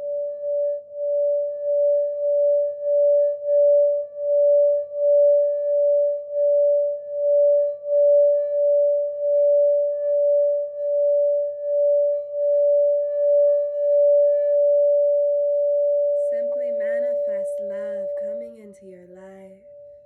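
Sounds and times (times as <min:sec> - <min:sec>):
singing bowl sustained tone: 0:00.0 - 0:20.0.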